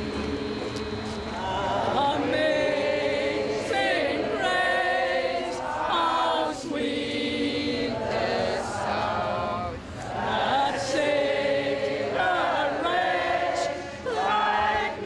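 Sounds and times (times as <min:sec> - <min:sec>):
voices singing long notes: 0:00.0 - 0:15.0.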